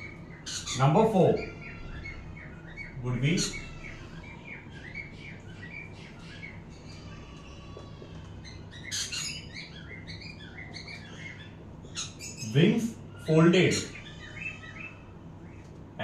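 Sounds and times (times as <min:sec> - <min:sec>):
parrots chirping: 0:00.0 - 0:16.0.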